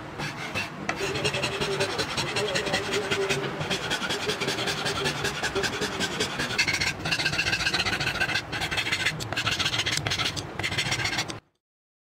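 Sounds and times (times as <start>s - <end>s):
hand file rasping wood: 0.2s - 11.4s.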